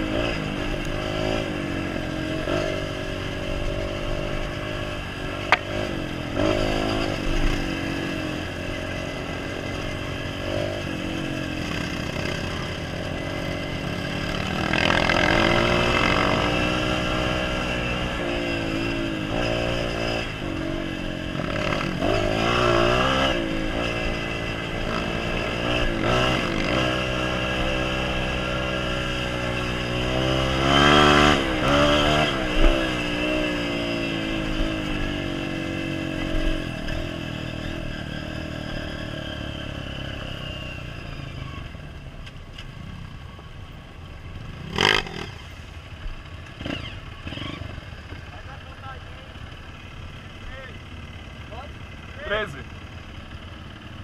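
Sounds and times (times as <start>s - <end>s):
dirt bike engine revving: 0.0s - 41.8s, 44.3s - 54.0s.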